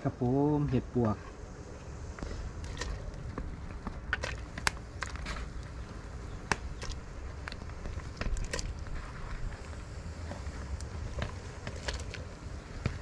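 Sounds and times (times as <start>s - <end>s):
steady low rumble: 0.0s - 13.0s
mushrooms crackling and clicking: 0.6s - 13.0s.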